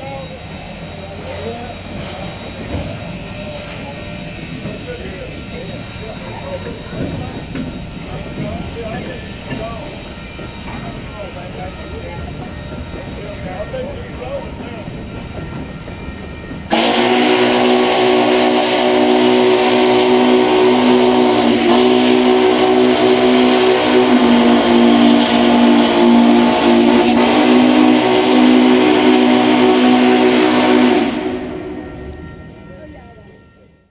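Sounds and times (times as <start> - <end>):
locomotive chime whistle: 0.0 - 33.9.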